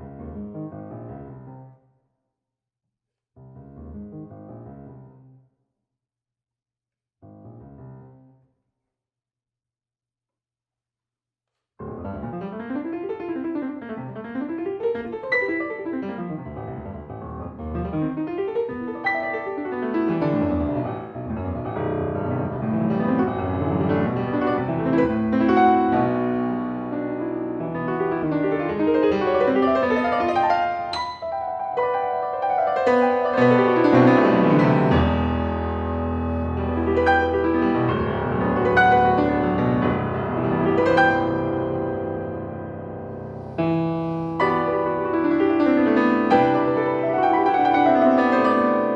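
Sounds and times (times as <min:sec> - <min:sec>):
fast solo piano piece: 0:00.0 - 0:01.8, 0:03.4 - 0:05.4, 0:07.2 - 0:08.4, 0:11.8 - 0:48.9.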